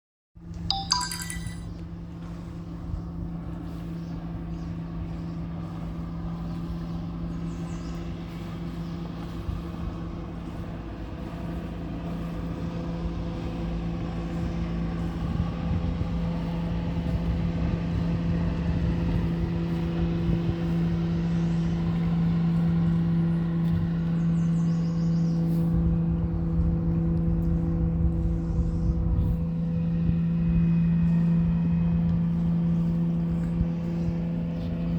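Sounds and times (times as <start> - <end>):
engine droning: 1.9 - 34.9.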